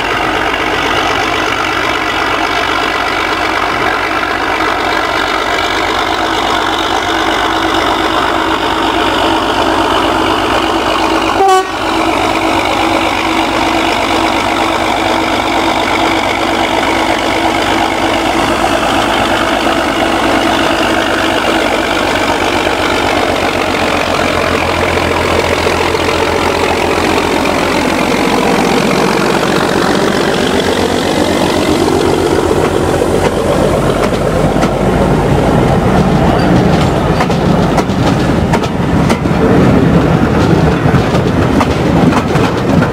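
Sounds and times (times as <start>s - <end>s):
locomotive diesel engine running: 0.0s - 42.9s.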